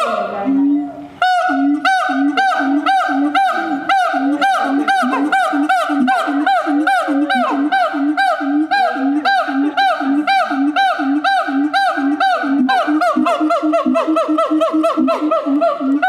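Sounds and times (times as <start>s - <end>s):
ape whooping calls: 0.0s - 16.0s.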